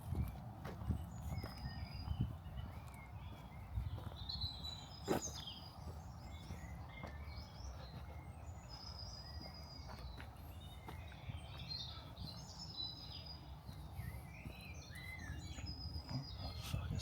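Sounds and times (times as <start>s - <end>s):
small birds chirping and whistling: 0.8s - 17.0s.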